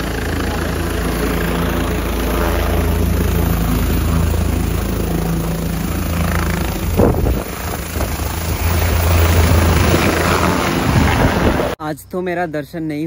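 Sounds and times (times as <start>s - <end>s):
helicopter rotor drone: 0.0s - 11.8s.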